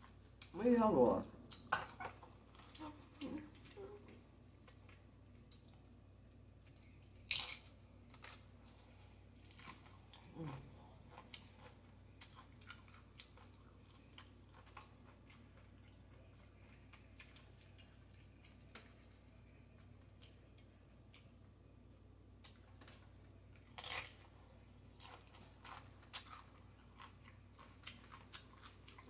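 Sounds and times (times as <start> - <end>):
chewing crunchy chips: 1.4 - 21.4, 22.4 - 29.0.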